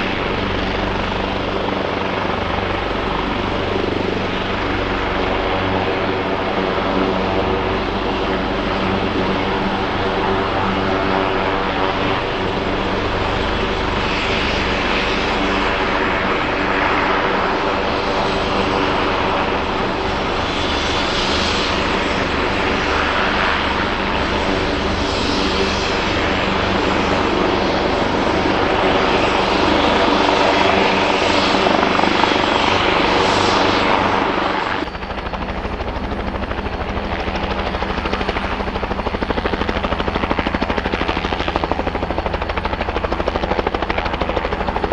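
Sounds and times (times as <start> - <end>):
helicopter engine and rotor: 0.0 - 44.9.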